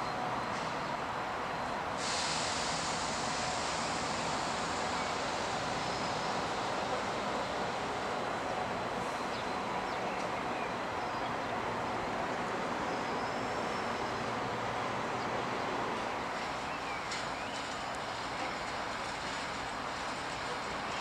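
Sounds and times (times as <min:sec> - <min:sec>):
train rumbling slowly: 0:00.0 - 0:21.0.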